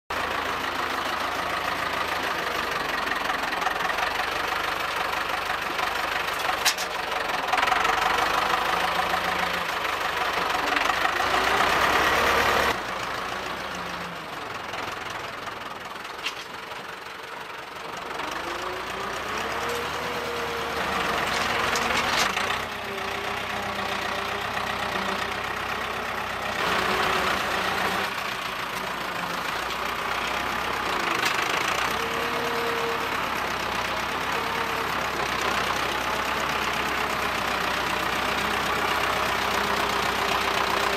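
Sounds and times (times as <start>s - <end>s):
tractor engine revving: 0.1s - 40.9s.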